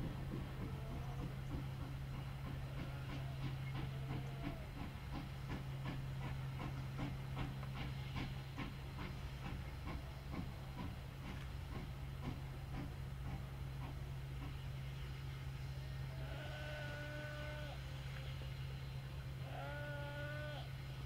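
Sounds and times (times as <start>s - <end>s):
train clicking and knocking: 0.0s - 21.0s
train low hum: 0.0s - 21.0s.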